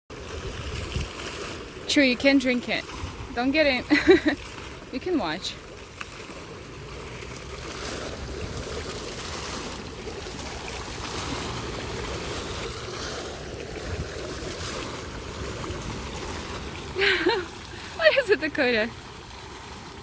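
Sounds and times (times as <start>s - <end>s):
water fountain splashing: 0.1s - 20.0s.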